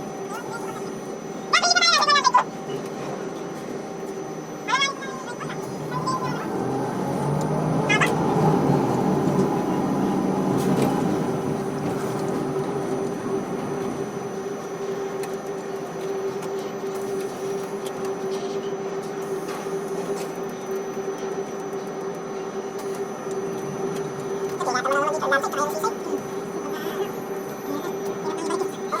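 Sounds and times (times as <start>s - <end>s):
crane machinery hum with tone: 0.0s - 29.0s.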